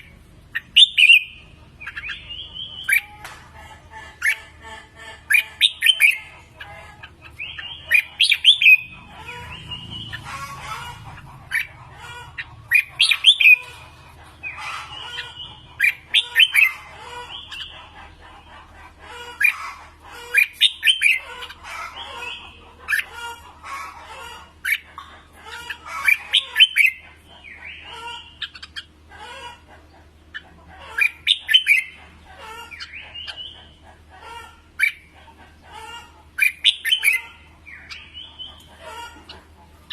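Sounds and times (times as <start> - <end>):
bird chattering notes: 0.0 - 39.9
birds singing warbled phrases: 0.0 - 39.9.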